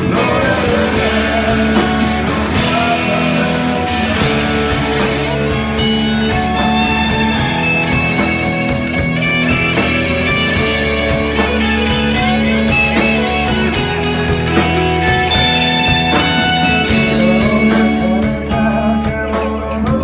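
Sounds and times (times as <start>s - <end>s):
bass guitar: 0.0s - 20.0s
drum kit beat: 0.0s - 20.0s
electric guitars ringing: 0.0s - 20.0s.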